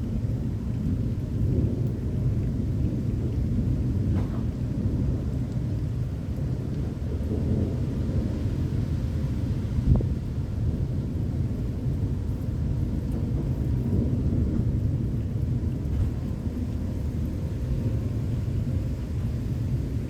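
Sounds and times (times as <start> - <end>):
thunder rumbling: 0.2 - 20.0.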